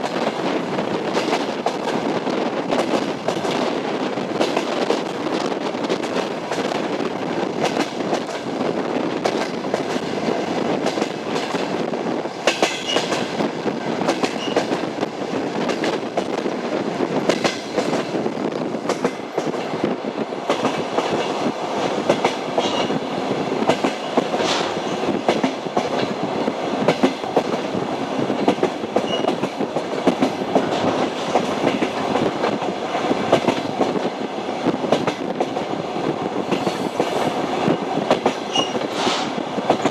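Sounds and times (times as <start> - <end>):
train wheels clickety-clack on rails: 0.0 - 39.9.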